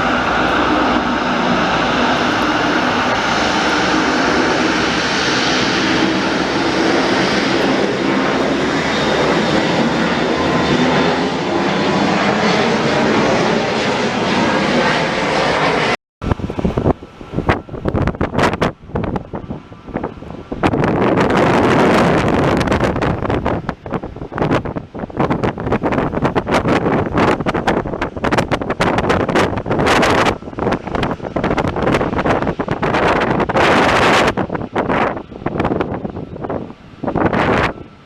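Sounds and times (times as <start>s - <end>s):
jet engines roaring: 0.0s - 38.0s
wind buffeting microphone: 0.0s - 38.0s.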